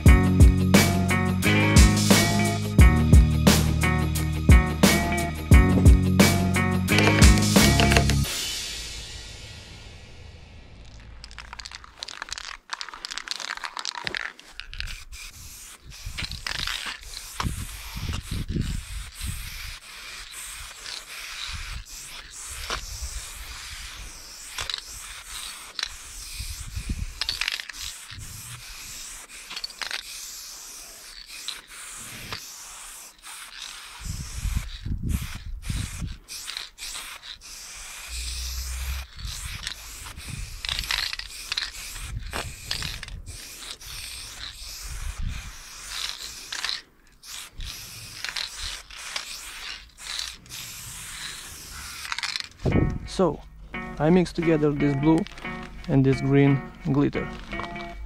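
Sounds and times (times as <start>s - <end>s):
spray paint can hissing: 0.0s - 58.0s.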